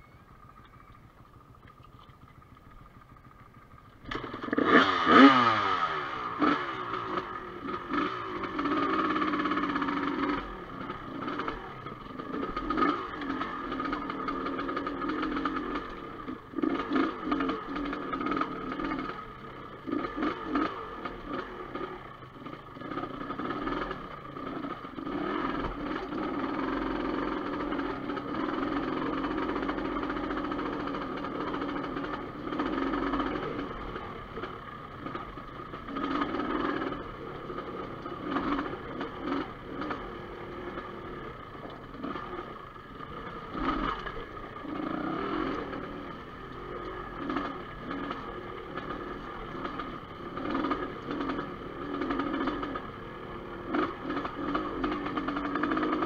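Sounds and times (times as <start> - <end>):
dirt bike engine revving: 4.0 - 56.0.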